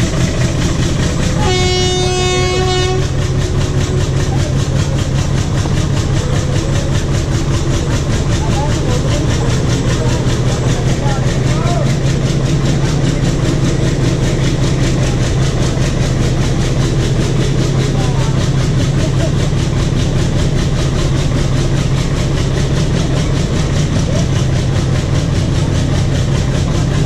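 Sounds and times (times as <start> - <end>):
diesel locomotive engine droning: 0.0 - 27.0.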